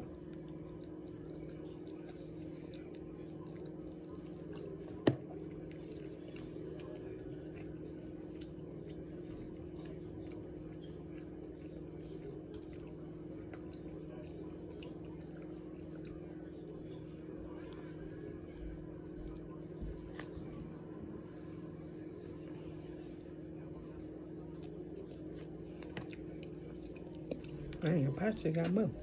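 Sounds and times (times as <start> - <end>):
chewing and wet mouth sounds: 0.0 - 29.0.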